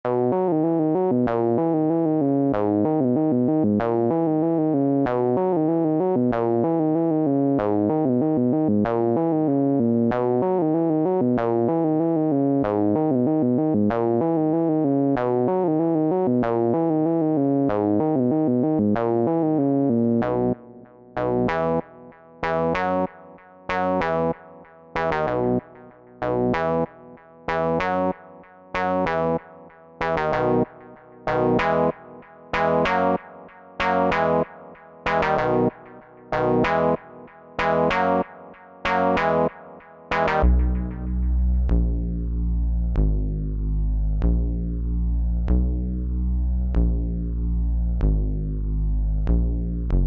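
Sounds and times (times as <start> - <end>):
synthesizer chords: 0.1 - 28.2, 28.8 - 50.0.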